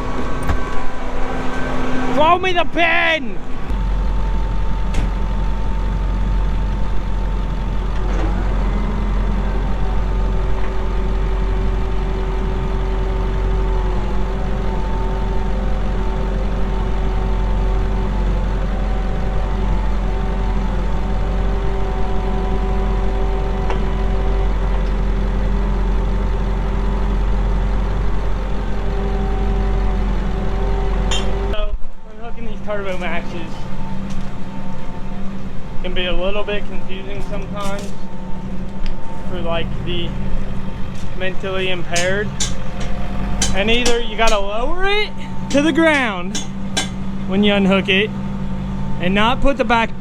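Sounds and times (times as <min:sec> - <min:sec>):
diesel tractor engine running: 0:00.0 - 0:50.0
engine whine: 0:00.0 - 0:50.0.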